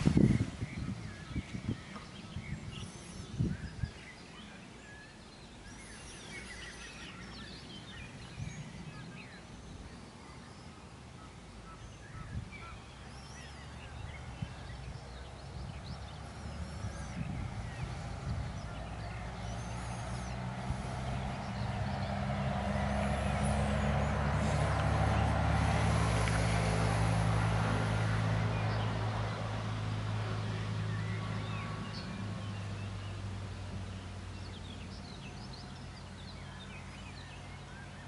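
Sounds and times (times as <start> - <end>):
small birds chirping and singing: 0.0 - 26.7, 28.4 - 38.0.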